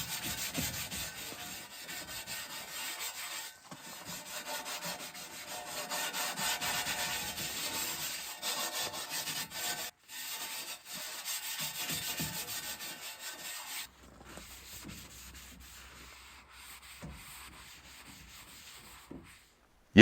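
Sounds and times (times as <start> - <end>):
rubbing strokes on hard surface: 0.0 - 19.6.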